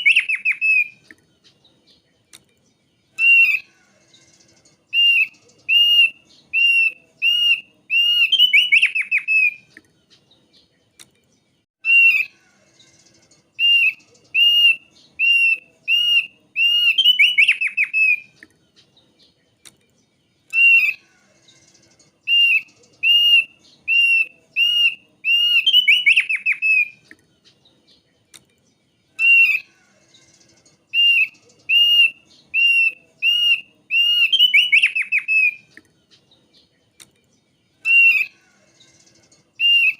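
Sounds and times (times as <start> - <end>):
bird singing whistled notes: 0.0 - 11.0, 11.8 - 39.9.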